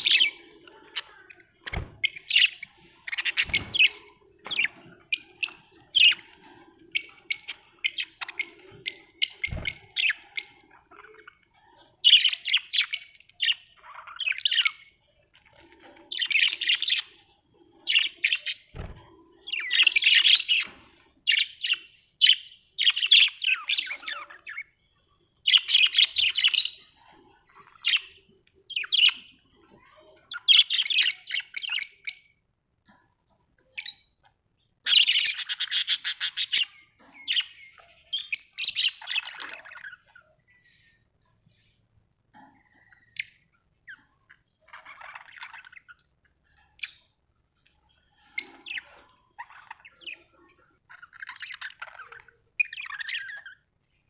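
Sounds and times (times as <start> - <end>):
budgerigars chirping and warbling: 0.0 - 32.4, 33.6 - 41.8, 42.4 - 54.0.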